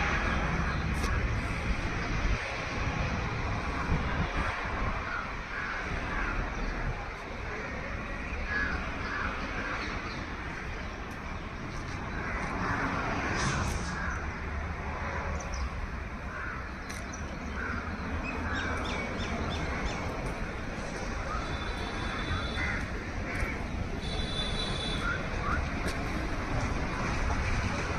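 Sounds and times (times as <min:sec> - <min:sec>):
outdoor background noise: 0:00.0 - 0:27.9.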